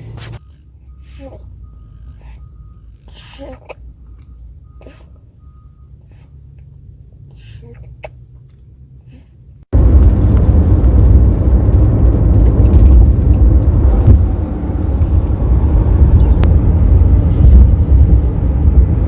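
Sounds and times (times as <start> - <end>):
car road rumble: 0.0 - 19.0.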